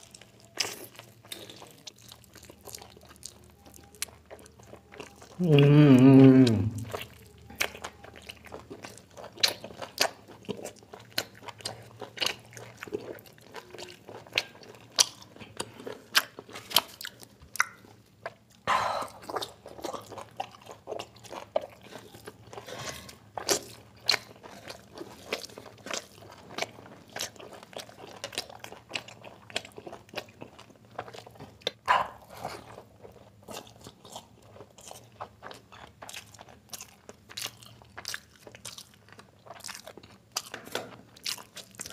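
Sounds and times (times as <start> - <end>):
chewing with mouth clicks: 0.0 - 41.9.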